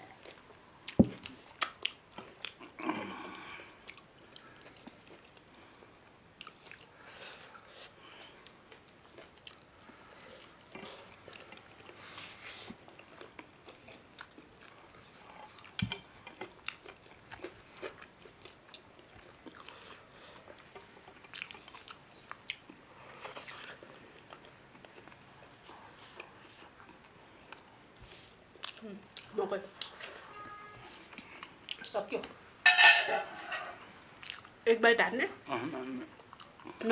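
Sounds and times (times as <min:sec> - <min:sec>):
person chewing food: 0:00.2 - 0:30.1, 0:33.8 - 0:34.6, 0:36.1 - 0:36.9.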